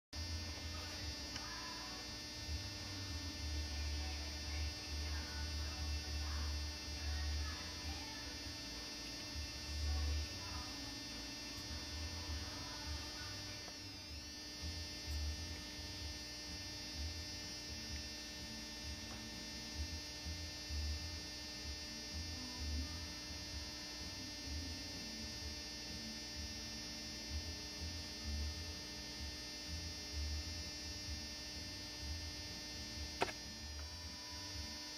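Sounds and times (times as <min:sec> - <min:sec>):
electrical mains hum: 0:00.2 - 0:34.9.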